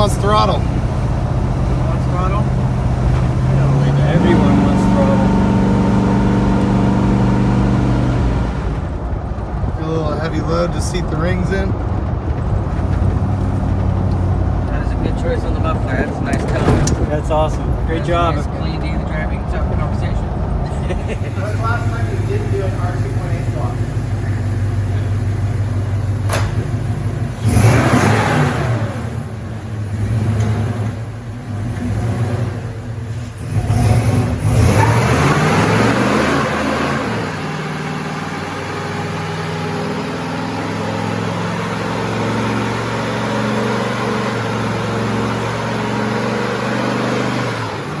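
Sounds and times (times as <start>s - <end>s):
engine revving: 0.0s - 48.0s.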